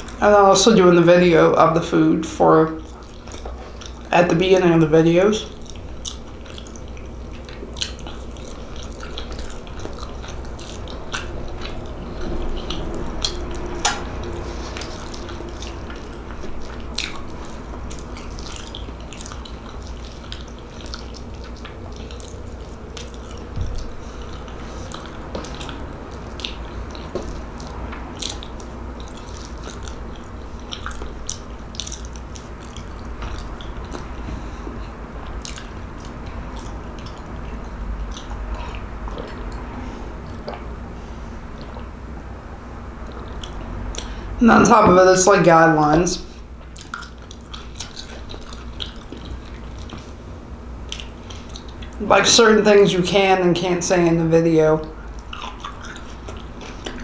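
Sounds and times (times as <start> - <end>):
low hum: 0.0 - 57.0
person chewing food: 2.7 - 44.4, 46.2 - 52.0, 54.8 - 57.0.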